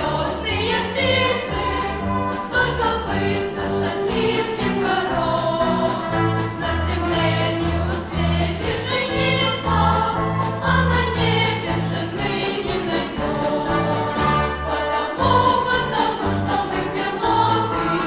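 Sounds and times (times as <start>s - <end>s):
orchestra playing: 0.0s - 18.0s.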